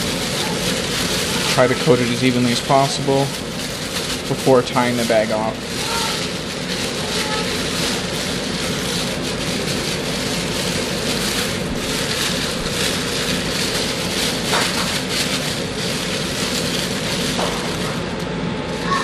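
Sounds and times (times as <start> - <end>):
plastic bag crinkling: 0.0 - 19.0
steady rushing background noise: 0.0 - 19.0.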